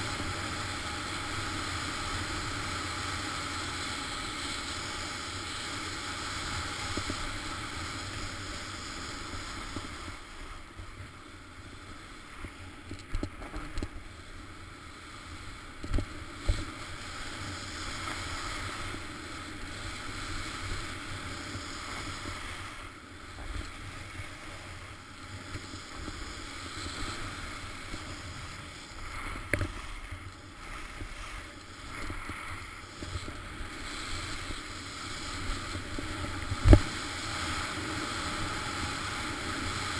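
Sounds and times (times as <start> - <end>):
skis scraping over snow: 0.0 - 39.9.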